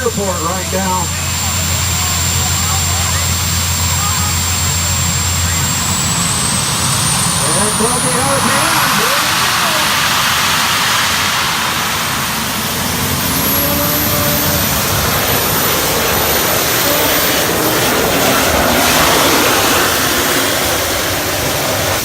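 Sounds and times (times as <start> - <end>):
gas turbine engine roaring: 0.0 - 22.0
thin high whine: 0.0 - 22.0.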